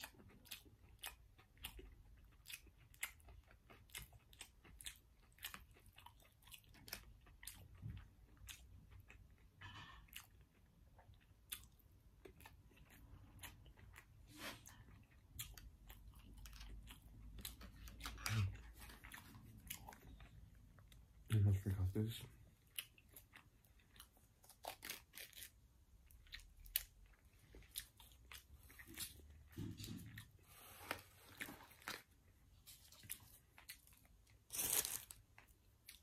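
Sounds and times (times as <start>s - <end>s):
person chewing food: 0.0s - 21.5s, 22.3s - 36.0s.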